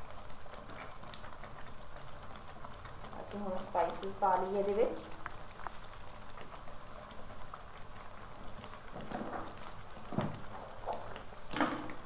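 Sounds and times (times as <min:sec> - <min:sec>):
thick paste simmering and popping: 0:00.0 - 0:12.0.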